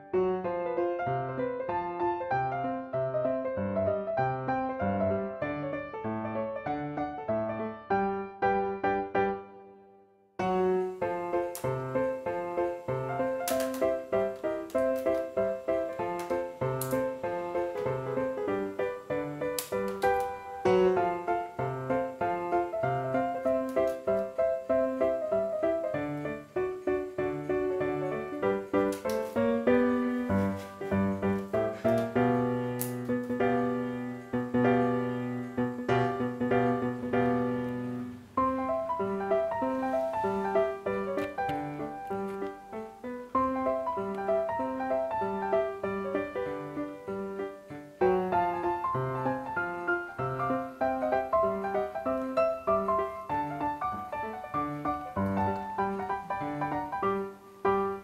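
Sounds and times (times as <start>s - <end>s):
piano melody: 0.0s - 58.0s.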